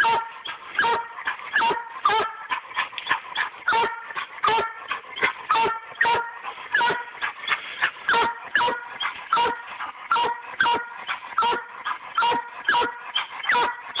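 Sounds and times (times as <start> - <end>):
hound barking: 0.0 - 14.0.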